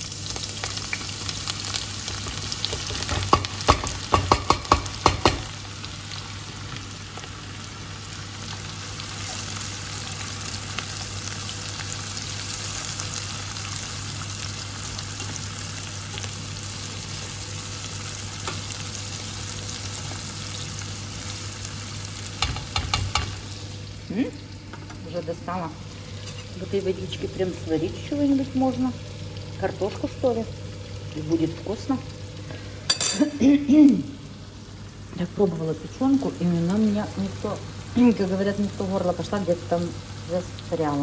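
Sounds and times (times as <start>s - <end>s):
onions sizzling in a frying pan: 0.0s - 41.0s.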